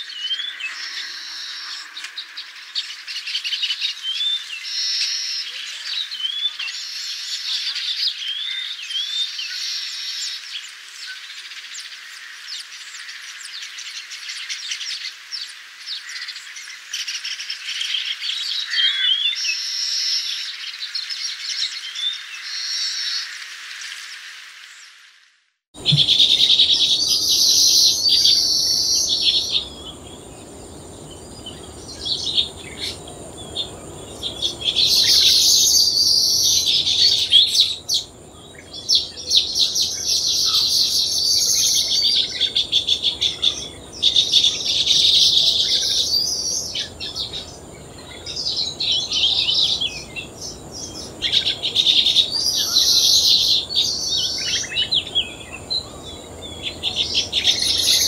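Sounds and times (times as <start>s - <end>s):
weaver birds chattering: 0.0s - 25.0s, 25.8s - 58.0s.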